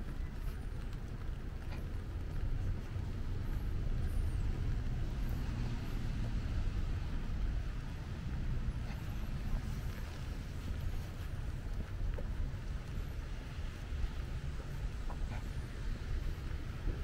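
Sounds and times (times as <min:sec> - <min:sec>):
traffic on wet streets: 0:00.0 - 0:17.0.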